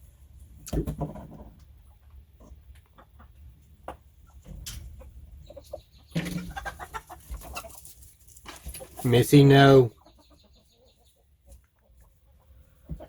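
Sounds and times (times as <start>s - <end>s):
hen clucking: 1.4s - 13.0s.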